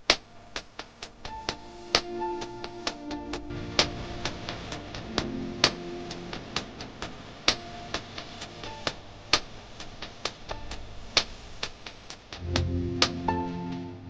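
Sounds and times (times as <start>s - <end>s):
faint background music: 0.1s - 11.7s, 12.4s - 14.0s.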